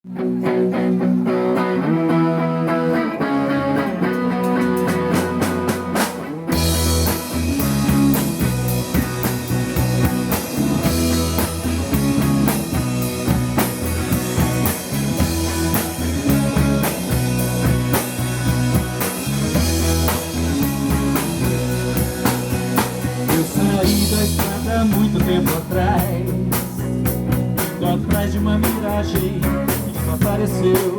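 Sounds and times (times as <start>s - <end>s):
electric guitar: 0.1s - 30.9s
instrumental rock music: 0.1s - 30.9s
bass and drums: 3.5s - 30.9s.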